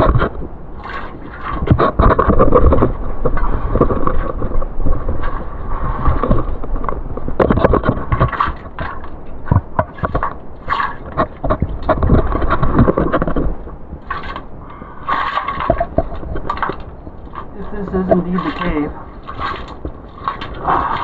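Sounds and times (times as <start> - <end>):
scraping over wet cobbles and gravel: 0.0 - 21.0.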